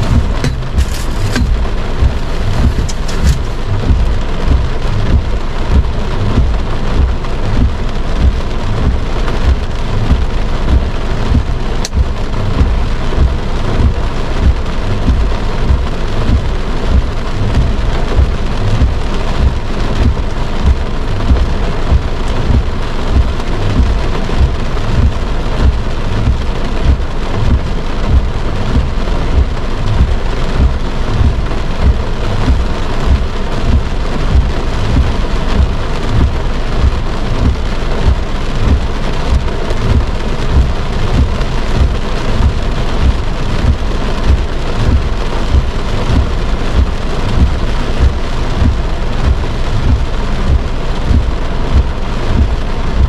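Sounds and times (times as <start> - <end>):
heavy rain on car roof: 0.0 - 53.0
low rumble: 0.0 - 53.0.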